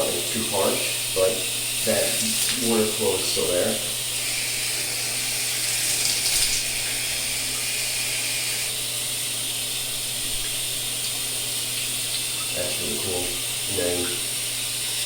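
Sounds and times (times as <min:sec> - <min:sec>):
shower water spraying: 0:00.0 - 0:15.0.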